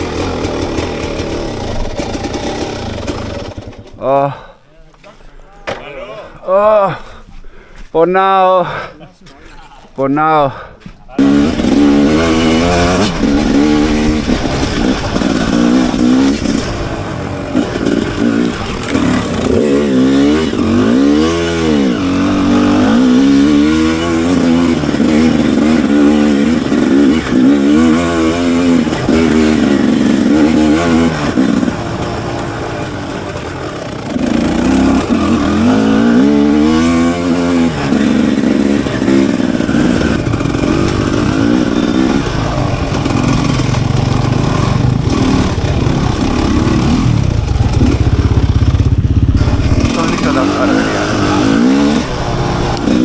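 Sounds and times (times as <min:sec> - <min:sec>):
motorcycle engine revving: 0:00.0 - 0:04.4, 0:11.2 - 0:53.0.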